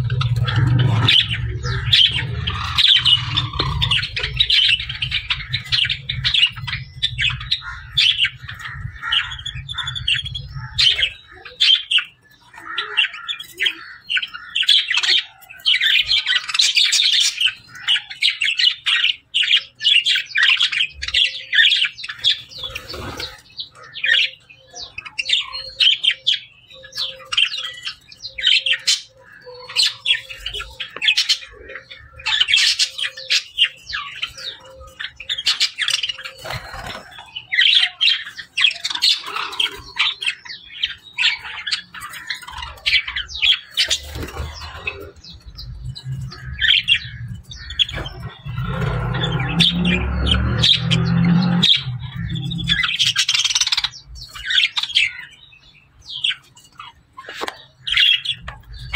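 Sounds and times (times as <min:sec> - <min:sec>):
budgerigars chirping: 0:00.0 - 0:58.9.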